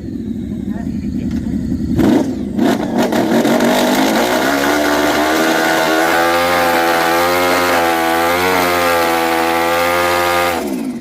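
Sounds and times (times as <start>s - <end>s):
racing motorcycle engine running: 0.0s - 11.0s.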